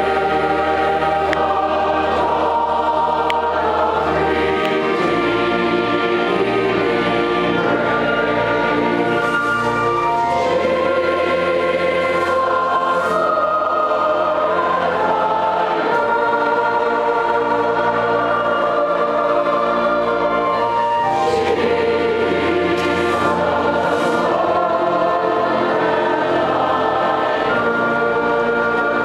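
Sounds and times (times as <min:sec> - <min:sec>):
mixed choir singing: 0:00.0 - 0:29.0.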